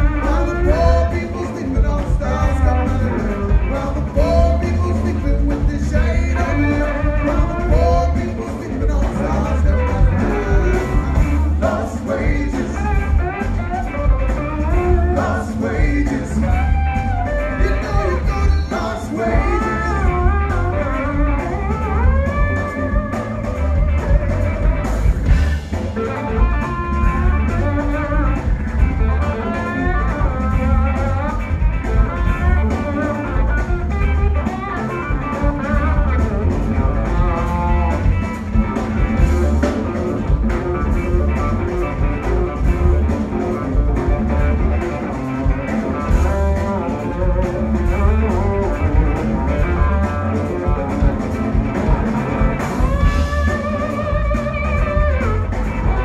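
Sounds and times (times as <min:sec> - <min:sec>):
funk band playing: 0:00.0 - 0:56.0.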